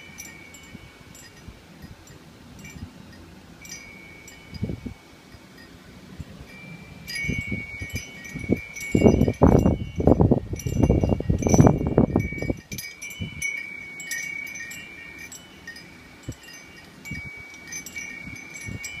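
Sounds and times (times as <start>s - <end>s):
wind chime ringing: 0.0s - 5.8s, 6.4s - 19.0s
wind rumbling on microphone: 0.0s - 19.0s.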